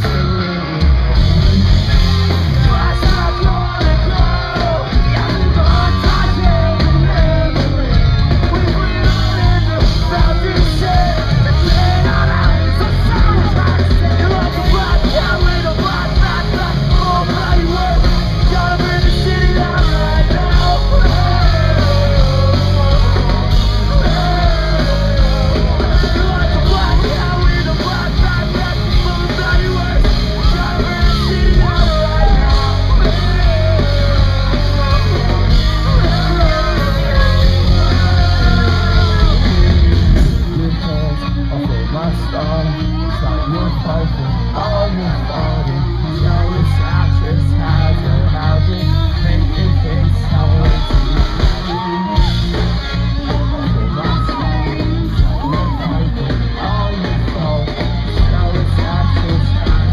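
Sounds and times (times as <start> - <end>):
drums: 0.0 - 59.9
electric guitars: 0.0 - 59.9
people singing: 2.0 - 52.1.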